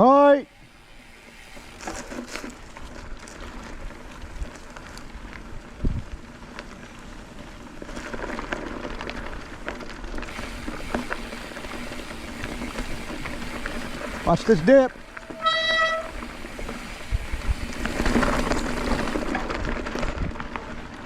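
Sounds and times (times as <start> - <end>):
bike clicks and rattles: 0.0 - 21.0
bike tyre crackling on dirt: 0.0 - 21.0.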